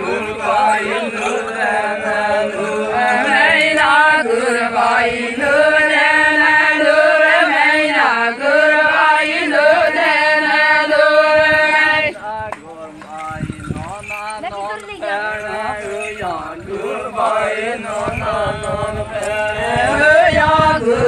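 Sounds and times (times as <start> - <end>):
women singing together: 0.0 - 21.0.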